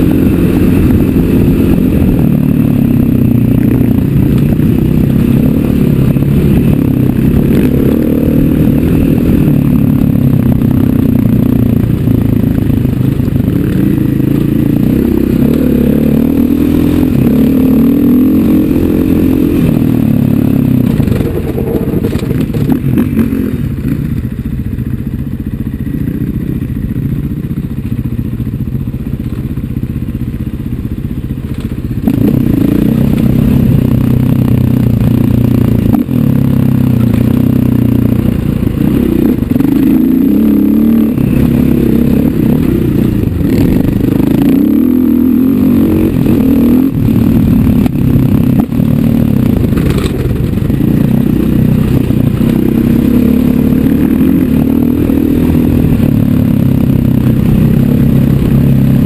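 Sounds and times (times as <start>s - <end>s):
dirt bike engine revving: 0.0s - 26.9s, 32.0s - 59.0s.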